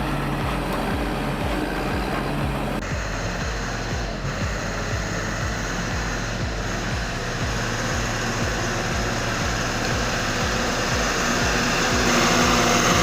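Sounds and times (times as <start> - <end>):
heavy engine rumbling: 0.0 - 13.0
irregular low thumps: 0.0 - 13.0.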